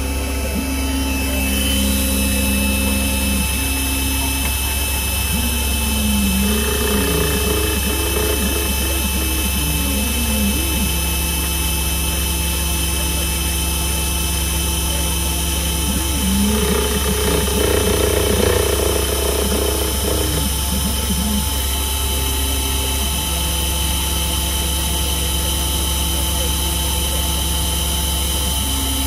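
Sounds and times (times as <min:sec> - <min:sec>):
constant machine hum: 0:00.0 - 0:29.0
milling machine motors whining: 0:00.0 - 0:29.0.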